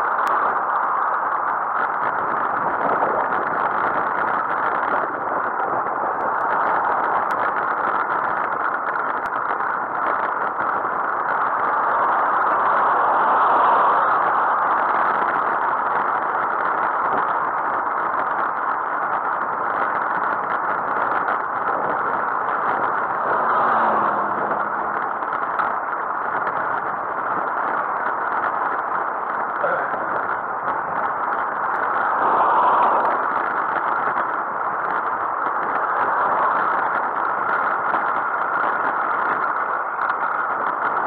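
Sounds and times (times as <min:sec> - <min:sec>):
road noise: 0:00.0 - 0:41.0
wind rushing: 0:00.0 - 0:41.0.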